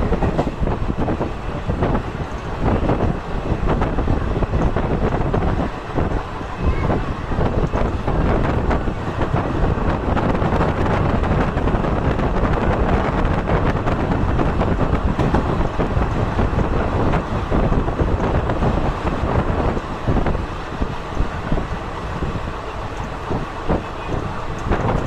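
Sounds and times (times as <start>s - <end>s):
train rumbling along track: 0.0s - 25.0s
wind buffeting microphone: 0.0s - 25.0s.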